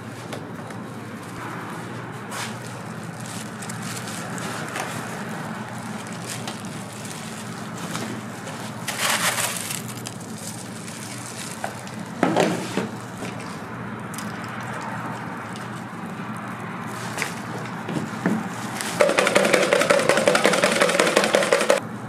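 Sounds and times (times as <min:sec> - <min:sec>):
steady low hum: 0:00.0 - 0:19.0
cornflakes being crushed: 0:02.5 - 0:17.8, 0:18.5 - 0:21.8.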